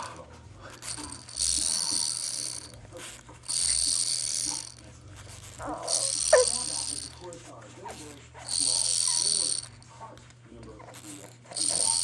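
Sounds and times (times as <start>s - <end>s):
mechanism whirring in pulses: 0.0s - 7.3s, 8.4s - 9.8s, 11.0s - 12.0s.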